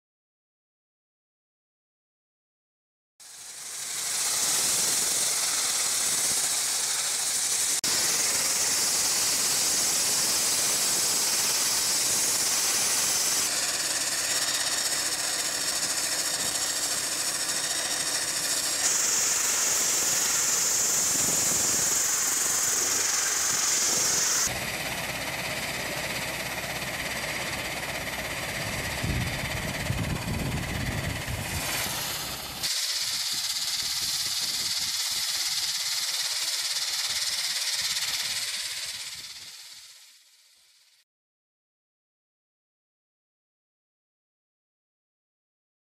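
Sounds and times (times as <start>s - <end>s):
high-pressure water jet hissing: 3.2s - 40.3s.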